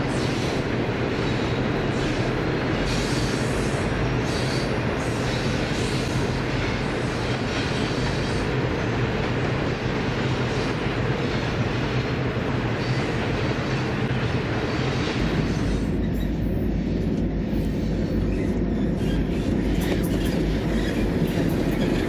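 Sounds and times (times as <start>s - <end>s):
train wheels running over rails: 0.0s - 22.0s.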